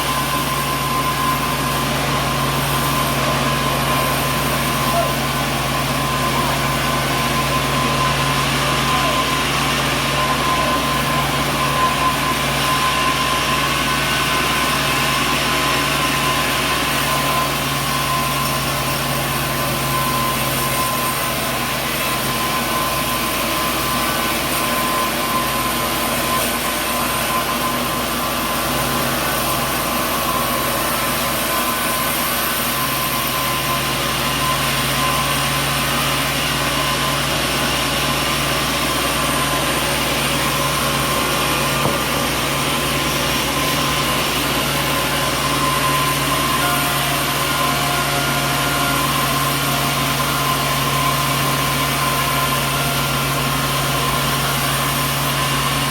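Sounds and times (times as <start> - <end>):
sawmill machinery hum: 0.0 - 55.9
thin steady whine: 0.0 - 55.9.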